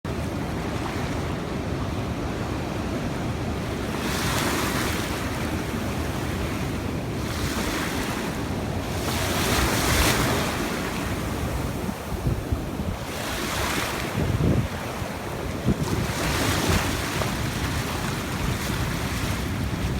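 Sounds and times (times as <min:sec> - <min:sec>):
sea waves washing ashore: 0:00.1 - 0:19.9
wind buffeting microphone: 0:00.4 - 0:19.9.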